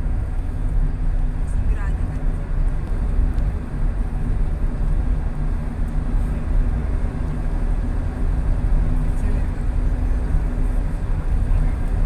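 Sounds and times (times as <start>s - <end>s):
bus running alongside: 0.0s - 12.0s
road and engine rumble inside car: 0.0s - 12.0s.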